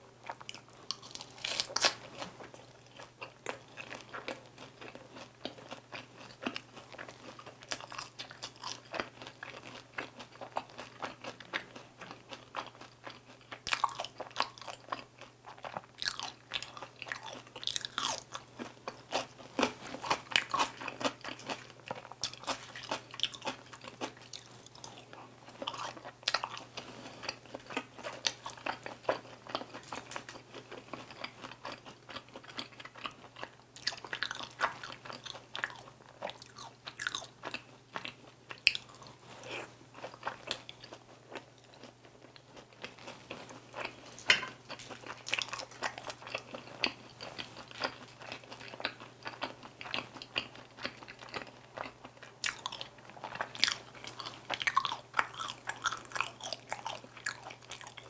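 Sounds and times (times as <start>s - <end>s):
crunchy chewing: 0.2s - 58.0s.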